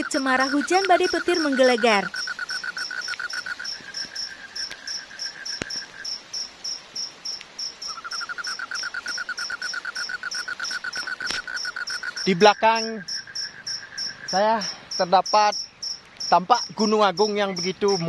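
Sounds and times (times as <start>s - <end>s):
insect high chirp: 0.0s - 18.0s
insect low pulsing trill: 0.0s - 18.0s.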